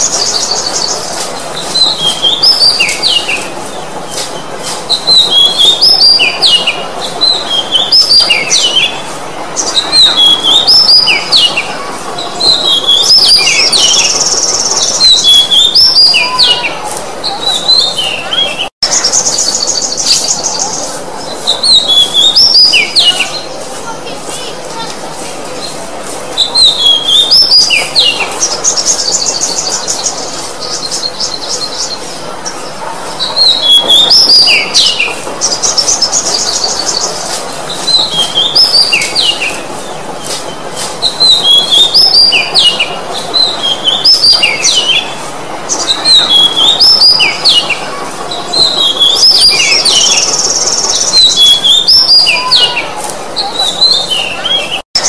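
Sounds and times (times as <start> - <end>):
bird whistled song: 0.0 - 3.5, 4.9 - 9.0, 9.6 - 11.7, 12.4 - 23.5, 26.4 - 32.7, 33.3 - 39.6, 40.2 - 47.8, 48.5 - 52.8.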